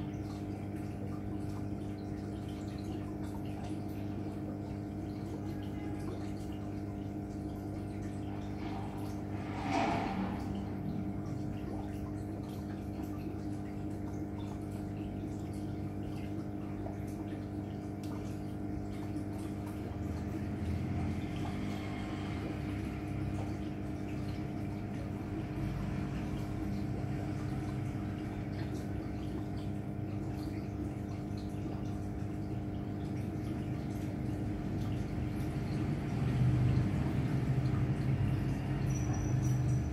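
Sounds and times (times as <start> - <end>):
aquarium pump humming: 0.0 - 39.9
water trickling and dripping: 0.0 - 39.9.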